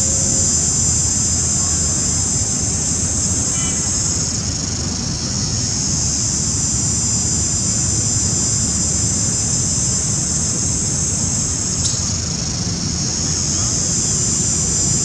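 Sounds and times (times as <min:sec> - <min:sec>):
high-pitched drone: 0:00.0 - 0:15.0.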